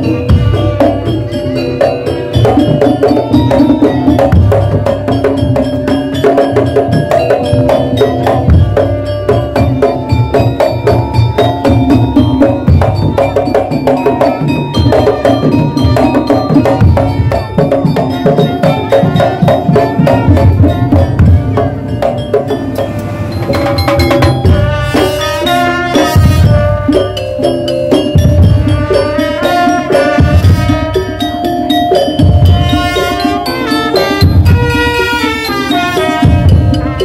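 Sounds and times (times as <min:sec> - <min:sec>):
held melody line: 0:00.0 - 0:37.0
percussion band playing: 0:00.0 - 0:37.0.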